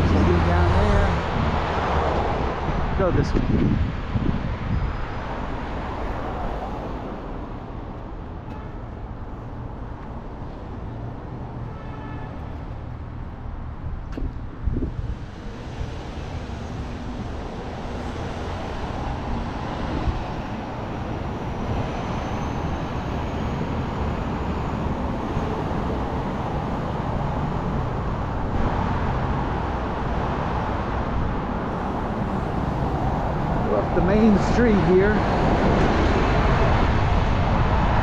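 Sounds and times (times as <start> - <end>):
cars passing on road: 0.0 - 38.0.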